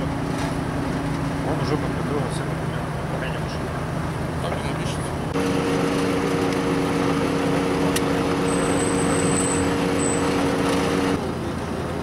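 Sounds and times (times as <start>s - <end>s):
idling vehicle hum: 0.0s - 12.0s.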